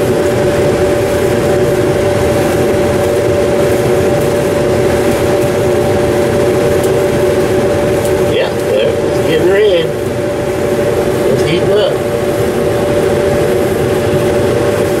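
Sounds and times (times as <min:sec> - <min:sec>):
electric dryer humming: 0:00.0 - 0:15.0.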